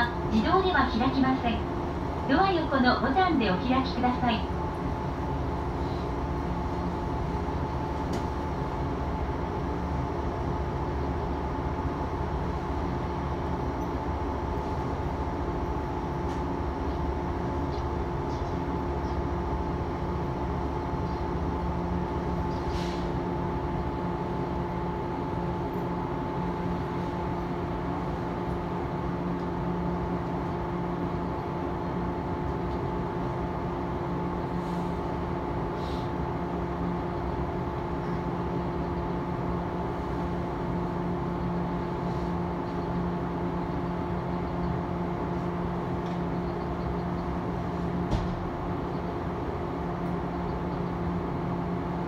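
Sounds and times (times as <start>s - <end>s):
electric train interior hum: 0.0s - 52.0s.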